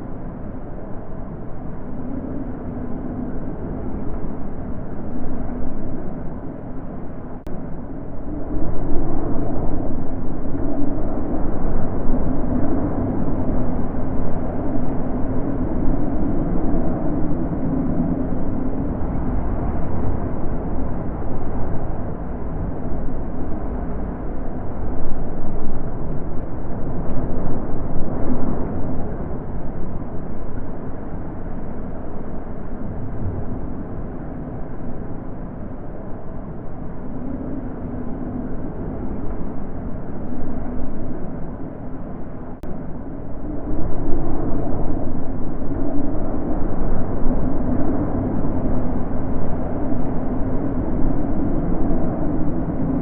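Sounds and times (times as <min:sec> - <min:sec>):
wind gusting: 0:00.0 - 0:53.0.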